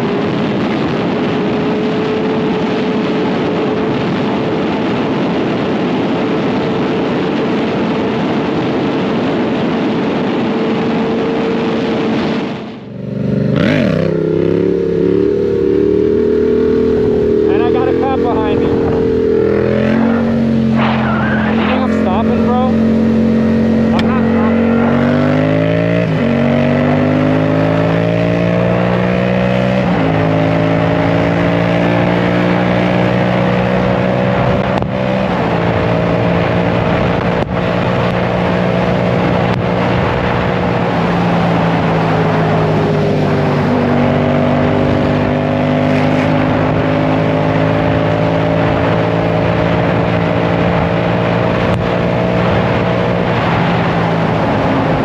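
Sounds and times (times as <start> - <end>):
motorcycle engine accelerating: 0.0 - 55.0
wind rush: 0.0 - 55.0.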